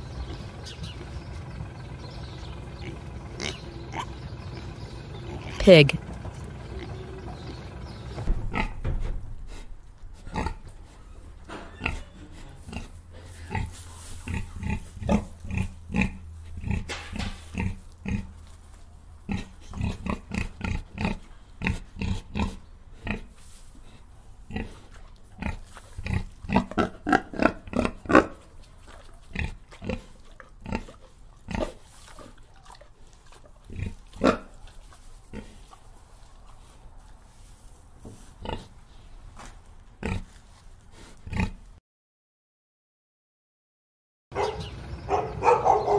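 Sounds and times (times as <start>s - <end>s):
pig grunting: 0.0s - 18.4s, 19.2s - 37.2s, 38.4s - 38.8s, 40.0s - 41.7s.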